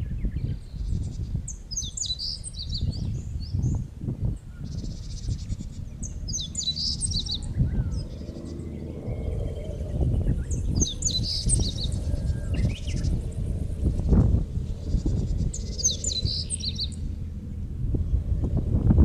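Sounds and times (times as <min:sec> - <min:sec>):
songbirds chirping: 0:00.0 - 0:18.7
wind rumble on microphone: 0:00.0 - 0:19.0.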